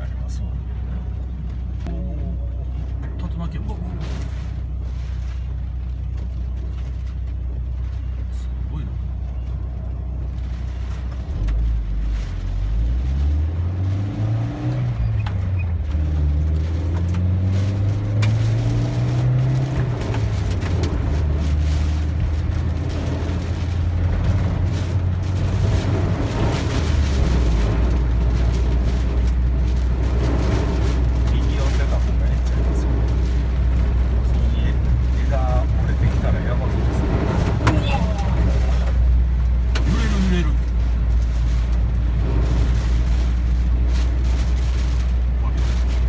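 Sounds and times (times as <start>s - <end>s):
car engine accelerating: 0.0s - 46.0s
road and wind noise: 0.0s - 46.0s.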